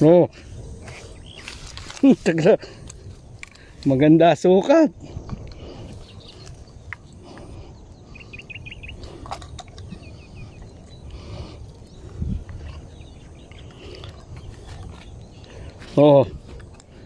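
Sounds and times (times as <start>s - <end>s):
bird chirping: 0.0s - 17.0s
grass rustling: 0.0s - 17.0s.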